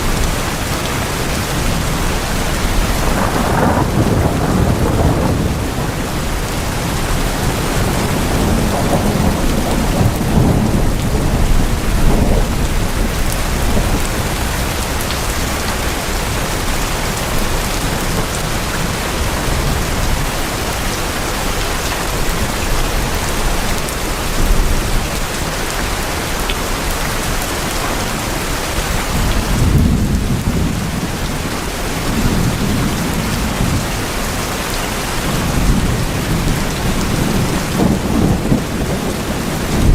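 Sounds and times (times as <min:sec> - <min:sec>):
low rolling thunder: 0:00.0 - 0:20.8, 0:27.3 - 0:39.9
heavy rain on tin roofs: 0:00.0 - 0:39.9.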